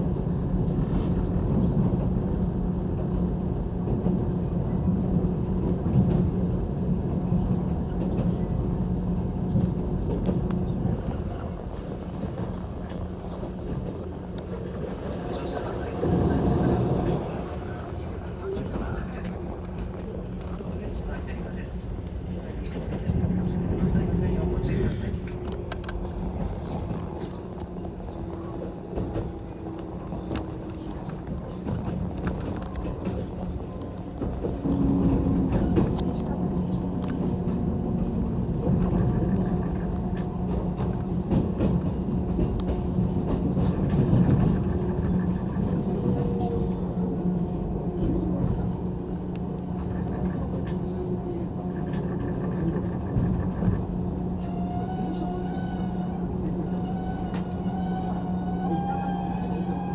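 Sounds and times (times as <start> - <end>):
train running rumble and hum: 0.0 - 59.9
faint rail clicks: 9.5 - 59.9.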